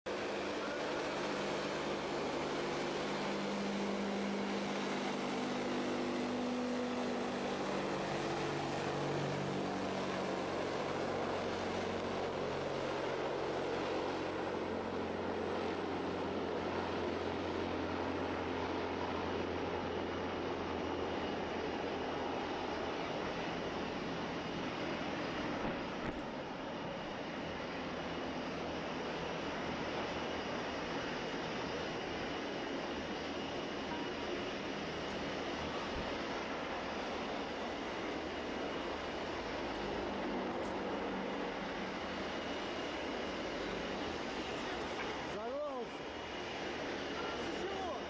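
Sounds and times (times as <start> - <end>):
turboprop engines droning: 0.1 - 48.0.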